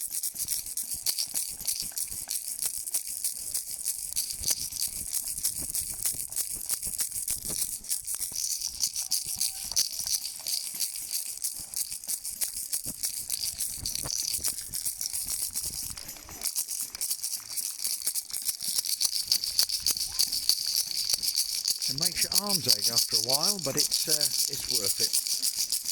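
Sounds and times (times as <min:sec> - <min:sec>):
noisemakers rattling and clattering: 0:04.3 - 0:25.9.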